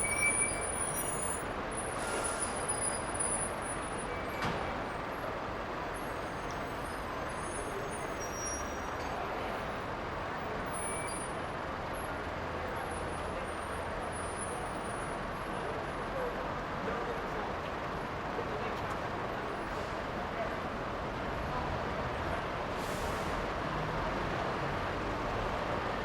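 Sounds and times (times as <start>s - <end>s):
bus engines: 0.0s - 26.0s
traffic noise: 0.0s - 26.0s.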